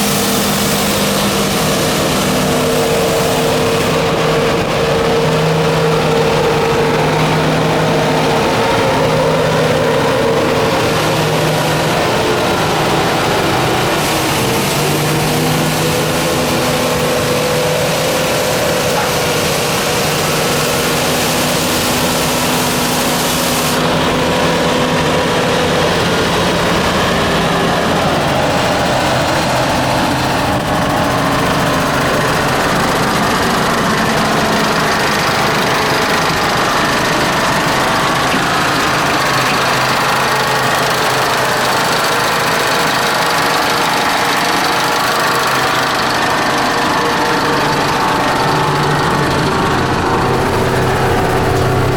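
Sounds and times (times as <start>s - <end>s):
street sweeper engine droning: 0.0s - 51.9s.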